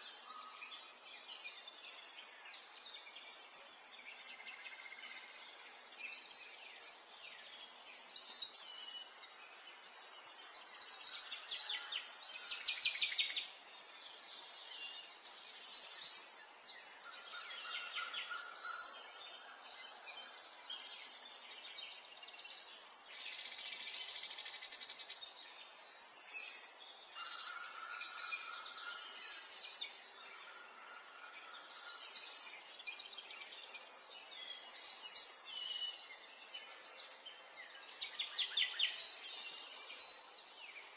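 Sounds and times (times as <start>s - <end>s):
wild birds chirping: 0.0s - 40.9s.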